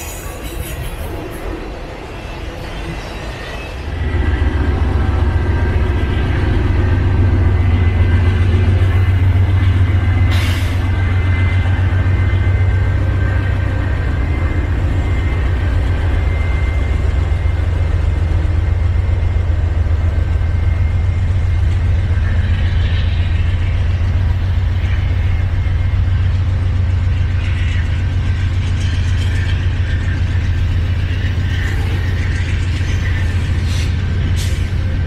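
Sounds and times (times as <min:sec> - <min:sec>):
diesel locomotive rumble: 0:00.0 - 0:35.0.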